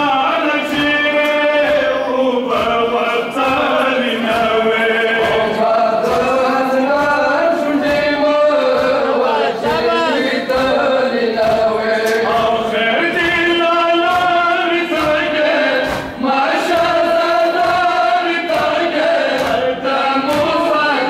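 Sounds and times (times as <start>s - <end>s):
men chanting in unison: 0.0s - 21.0s
chest-beating slaps: 0.6s - 20.6s.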